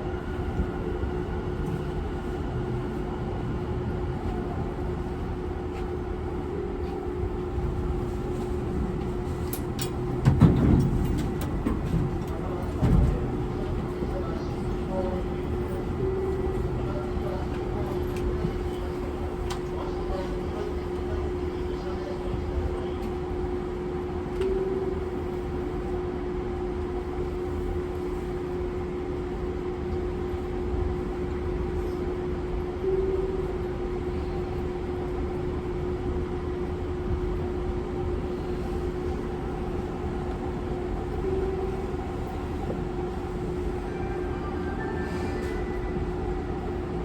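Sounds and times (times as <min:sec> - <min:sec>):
electric train interior hum: 0:00.0 - 0:47.0
low train rumble: 0:00.0 - 0:47.0.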